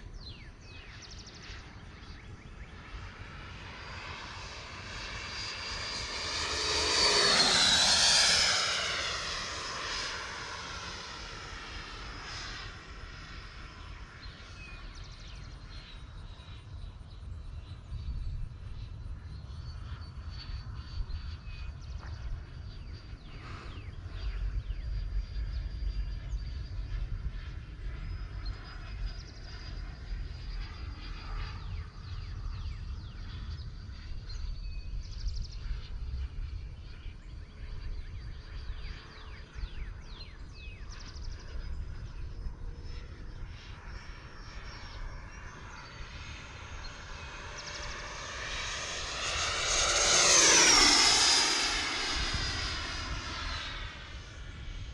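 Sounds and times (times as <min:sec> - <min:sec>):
model jet whine: 0:00.0 - 0:54.9.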